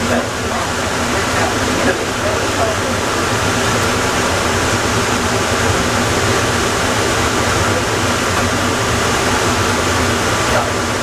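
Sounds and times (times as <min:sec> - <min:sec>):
people mover train running: 0:00.0 - 0:11.0.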